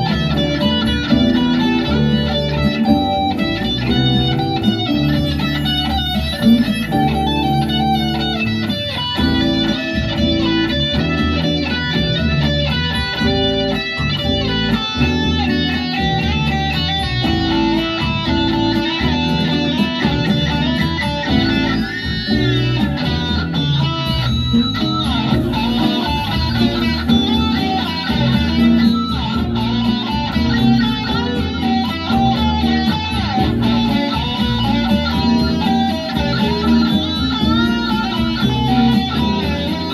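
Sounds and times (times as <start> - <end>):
electric guitar melody: 0.0 - 39.9.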